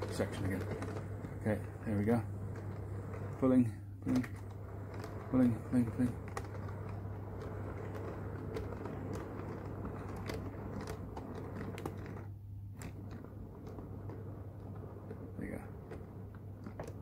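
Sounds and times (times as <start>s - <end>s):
model train rolling on track: 0.0s - 17.0s
wheels clicking over rail joints: 0.0s - 17.0s.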